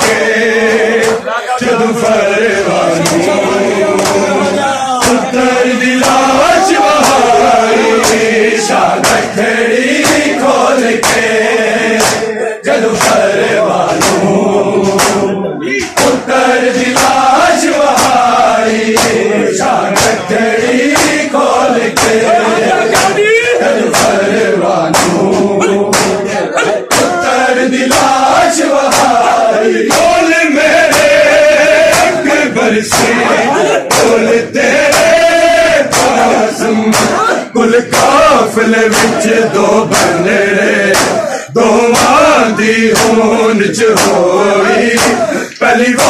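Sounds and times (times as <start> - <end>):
hands slapping chests: 0.0 - 46.0
men chanting a lament: 0.0 - 46.0.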